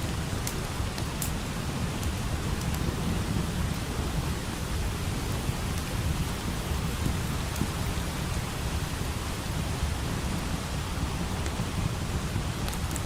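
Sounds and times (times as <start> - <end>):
faint wood fire crackles: 0.0 - 13.0
steady rain: 0.0 - 13.0.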